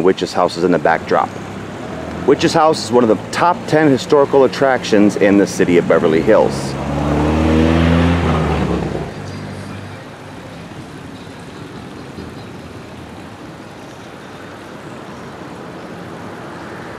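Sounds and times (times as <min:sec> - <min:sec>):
steady rush of background noise: 0:00.0 - 0:16.9
passing car engine: 0:00.6 - 0:16.9.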